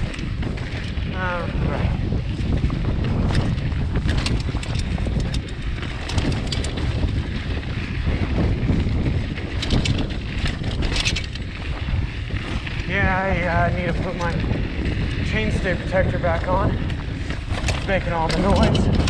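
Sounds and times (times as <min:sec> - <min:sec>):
wind rumble on microphone: 0:00.0 - 0:19.0
bike chain slapping frame: 0:02.4 - 0:19.0.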